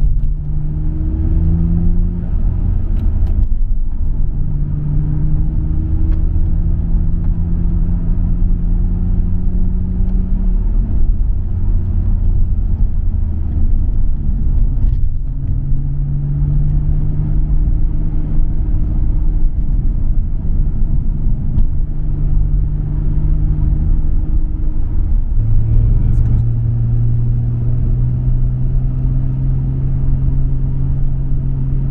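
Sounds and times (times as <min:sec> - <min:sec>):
car engine driving: 0:00.0 - 0:31.9
low rumble: 0:00.0 - 0:31.9.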